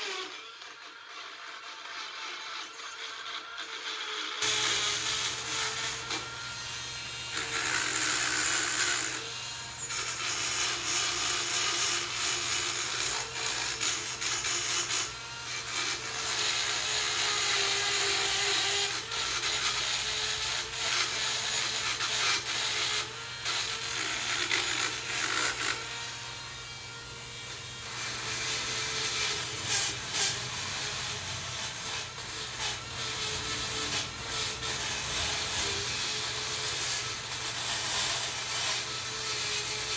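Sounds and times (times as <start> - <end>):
bit grinding metal: 0.0 - 39.9
rotary tool whining: 0.0 - 39.9.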